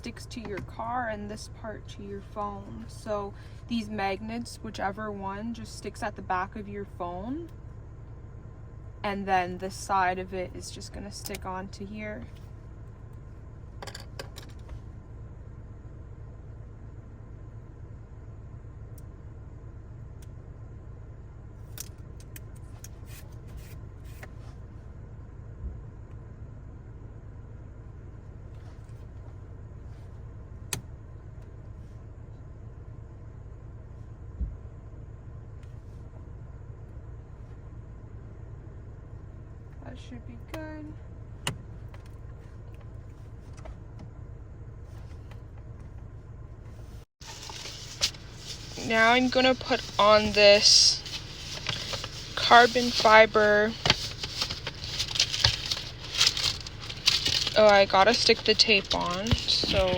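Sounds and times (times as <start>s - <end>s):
low steady rumble: 0.0s - 59.9s
steady low hum: 0.0s - 59.9s.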